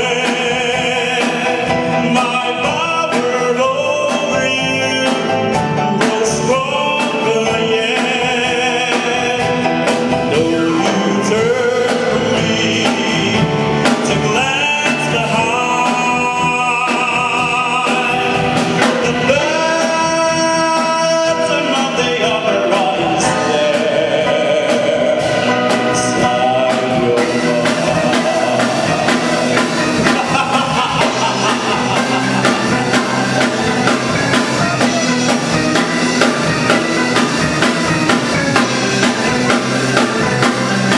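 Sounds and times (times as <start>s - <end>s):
live band playing: 0.0s - 40.9s
person singing with vibrato: 0.0s - 40.9s.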